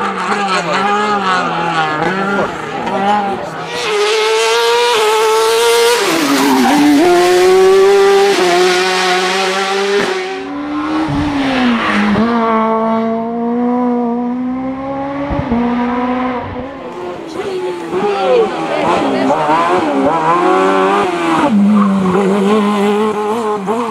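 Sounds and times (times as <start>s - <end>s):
race car engine revving: 0.0s - 23.9s.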